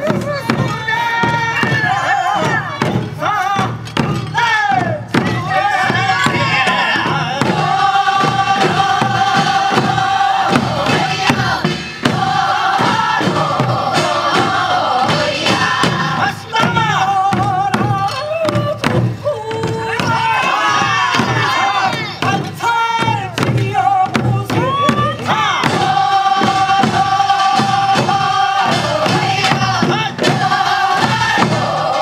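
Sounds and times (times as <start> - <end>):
barrel drum beats: 0.0 - 32.0
group of voices singing: 0.0 - 32.0.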